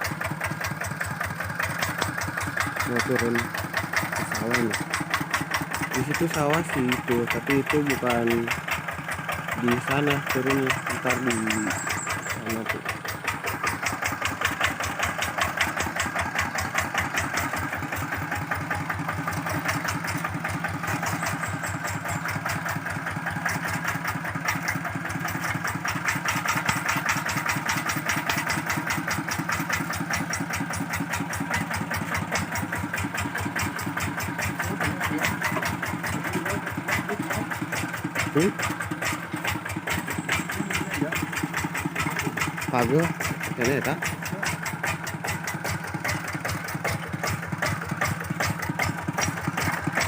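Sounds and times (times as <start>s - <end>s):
diesel engine chugging: 0.0s - 50.0s.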